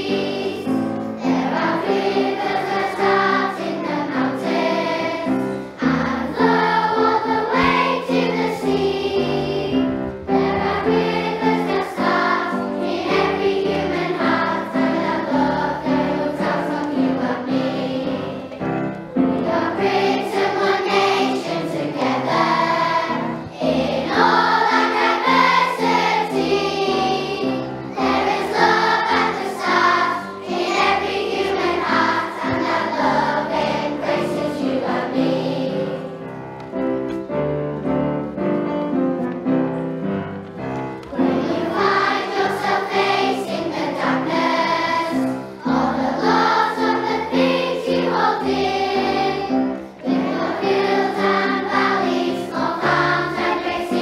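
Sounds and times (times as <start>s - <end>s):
choir singing: 0.0s - 36.5s, 41.1s - 54.0s.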